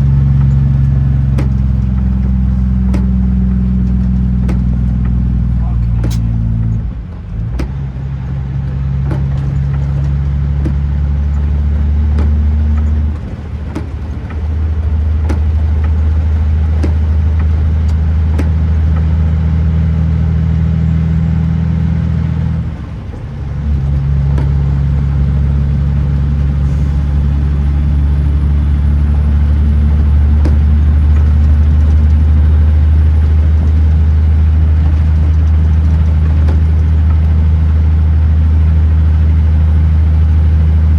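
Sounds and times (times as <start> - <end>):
truck diesel engine humming: 0.0 - 40.9.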